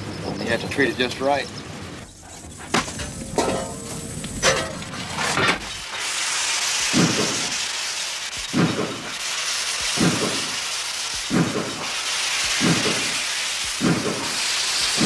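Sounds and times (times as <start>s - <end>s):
steam locomotive exhaust chuffs: 0.0s - 15.0s
steam venting hiss: 0.0s - 15.0s.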